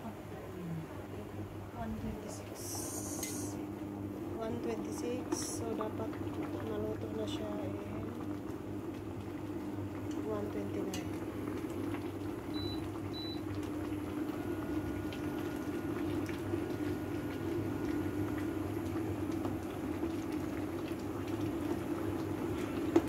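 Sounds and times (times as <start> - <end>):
broth bubbling in a pot: 1.3 - 23.0.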